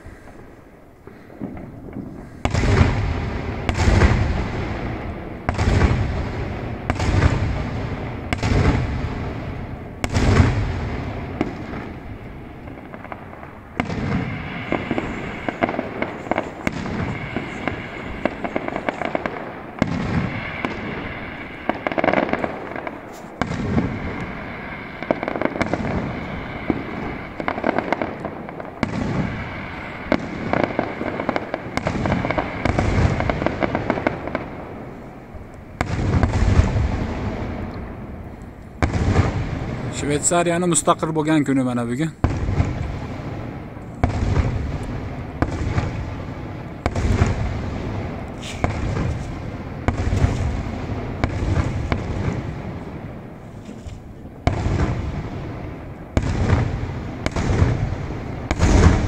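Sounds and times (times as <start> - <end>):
firework shells booming: 0.0 - 59.0
fireworks crackling: 0.0 - 59.0.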